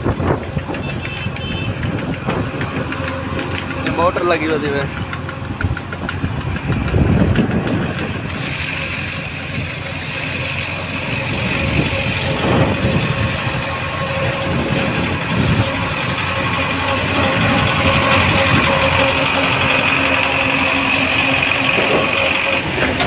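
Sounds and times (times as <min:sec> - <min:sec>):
road noise: 0:00.0 - 0:23.0
vehicle engine running: 0:00.0 - 0:23.0.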